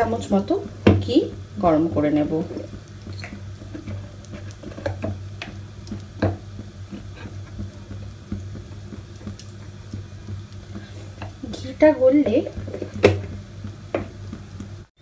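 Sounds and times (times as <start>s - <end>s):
steady low hum: 0.0s - 14.9s
oil ticking and crackling: 0.0s - 15.0s.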